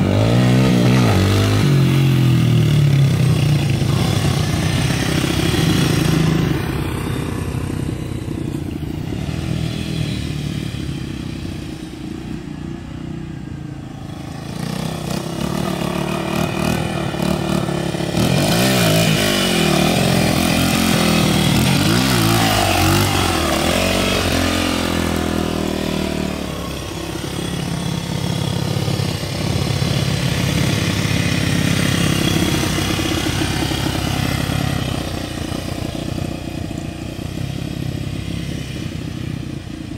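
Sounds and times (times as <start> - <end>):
dirt bike engine revving: 0.0 - 11.8, 14.1 - 39.1.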